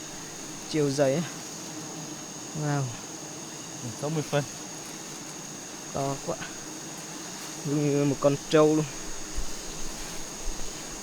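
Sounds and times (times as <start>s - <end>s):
outdoor hiss: 0.0s - 11.0s.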